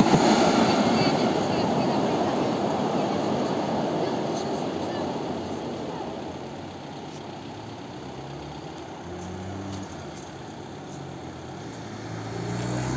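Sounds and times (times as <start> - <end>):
broad rumble: 0.0 - 12.0
car engine hum: 0.0 - 12.9
car engines idling: 0.0 - 12.9.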